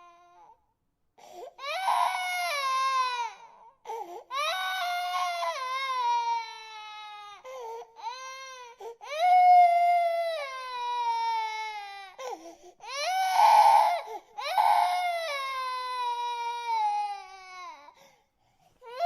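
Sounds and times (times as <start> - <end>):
infant crying: 0.0 - 0.6, 1.2 - 18.1.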